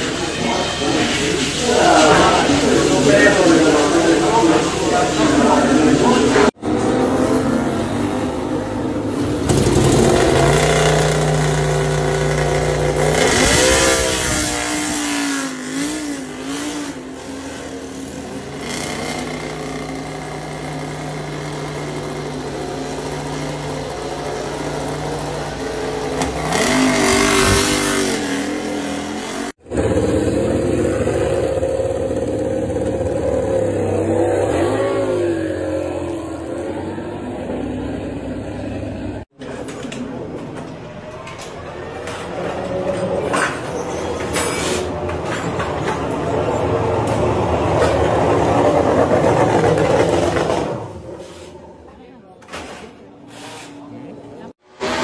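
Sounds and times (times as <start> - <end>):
race bike engines running: 0.0 - 52.2.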